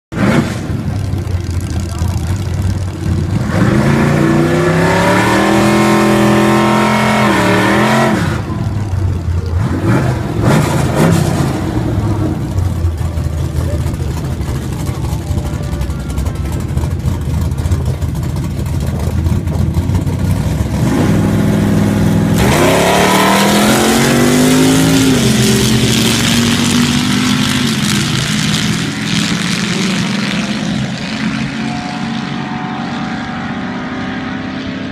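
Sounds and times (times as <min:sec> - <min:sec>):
drag car engine revving: 0:00.1 - 0:34.9.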